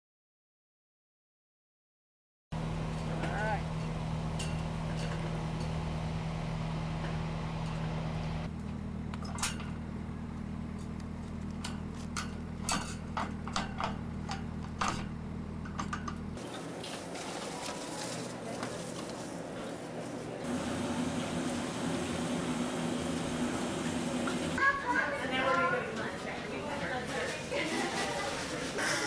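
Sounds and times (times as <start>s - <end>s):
low outdoor hum: 2.6s - 29.0s.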